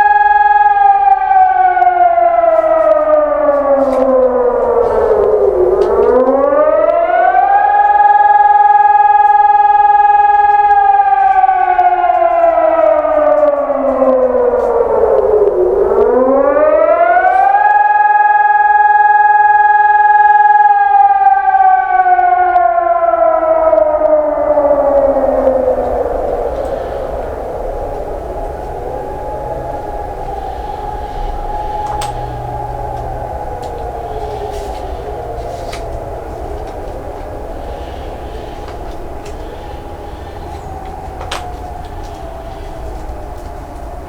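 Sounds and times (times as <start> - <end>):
civil defence siren wailing: 0.0 - 44.0.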